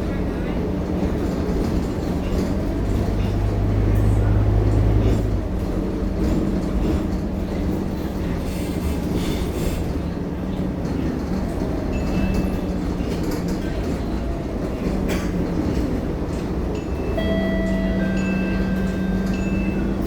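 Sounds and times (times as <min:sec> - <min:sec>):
bus diesel engine droning: 0:00.0 - 0:20.0
road noise: 0:00.0 - 0:20.0.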